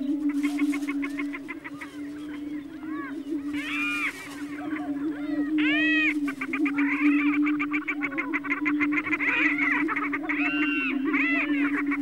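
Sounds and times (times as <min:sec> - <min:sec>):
fast bird chatter: 0:00.0 - 0:12.0
rising and falling bird calls: 0:00.0 - 0:12.0.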